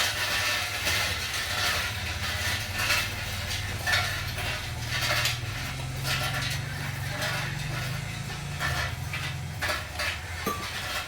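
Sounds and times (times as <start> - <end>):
short clicks and scrapes: 0.0 - 11.0
small electric motors droning: 1.0 - 11.0.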